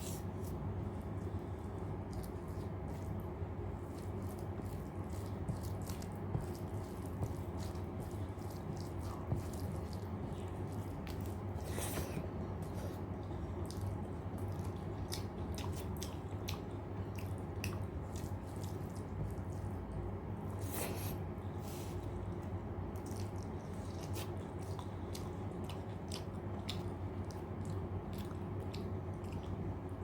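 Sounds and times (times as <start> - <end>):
steady low hum: 0.0 - 30.0
wet chewing and mouth smacks: 0.4 - 20.0, 22.9 - 30.0.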